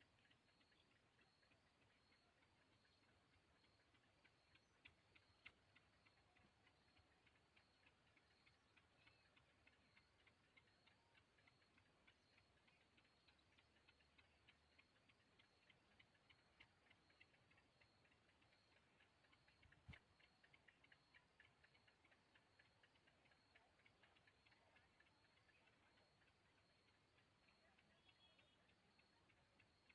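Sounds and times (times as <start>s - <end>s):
faint rapid ticking: 0.0s - 29.9s.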